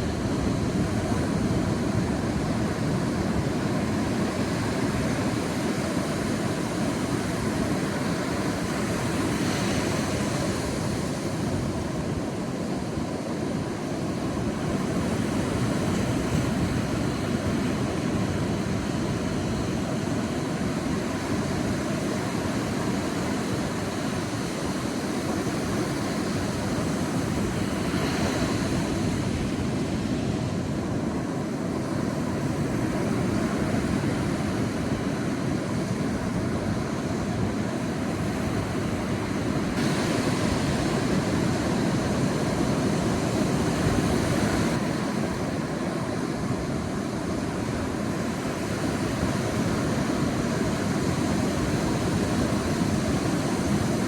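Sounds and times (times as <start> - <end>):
sea surf washing onto beach: 0.0 - 54.0
waves breaking: 0.0 - 54.0.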